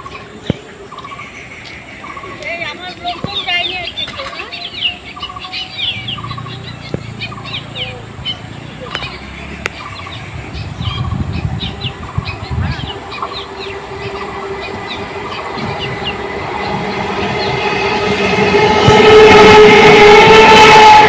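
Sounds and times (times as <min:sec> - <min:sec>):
birds chirping: 0:00.0 - 0:21.0
electric train rumble and whine: 0:00.0 - 0:21.0.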